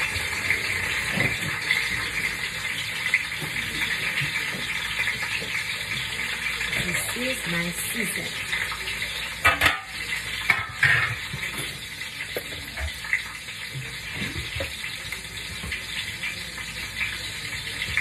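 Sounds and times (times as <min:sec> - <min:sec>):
onion frying in hot oil: 0:00.0 - 0:18.0.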